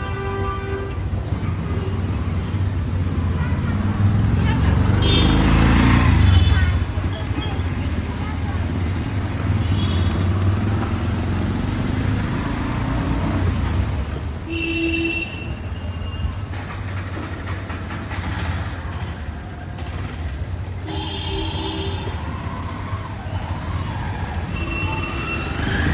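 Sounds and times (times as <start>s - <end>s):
vehicle engine rumbling: 0.0s - 14.6s, 15.5s - 25.9s.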